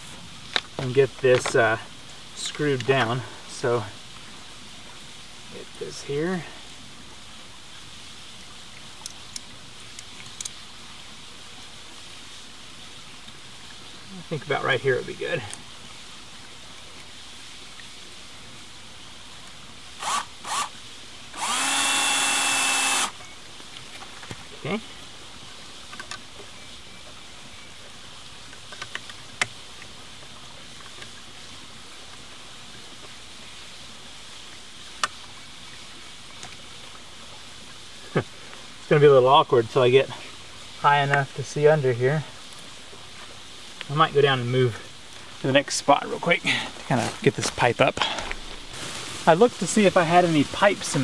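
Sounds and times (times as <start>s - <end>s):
creek running over rocks: 0.0s - 51.0s
steady outdoor hiss: 0.0s - 51.0s.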